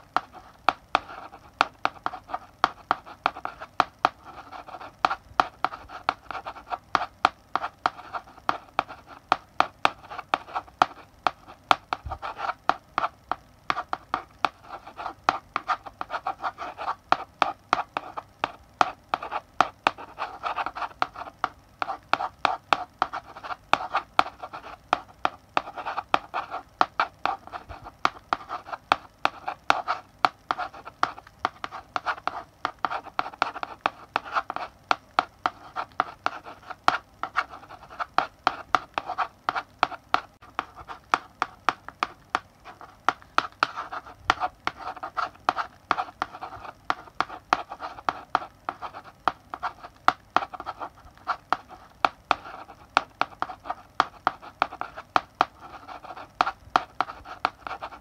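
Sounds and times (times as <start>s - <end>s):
chalk tapping and scratching: 0.0s - 58.0s.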